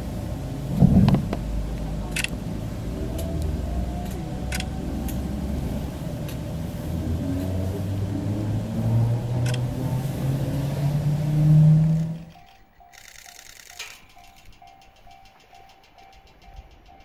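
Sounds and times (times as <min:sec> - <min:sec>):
train motor hum rising in pitch: 0:00.0 - 0:17.0.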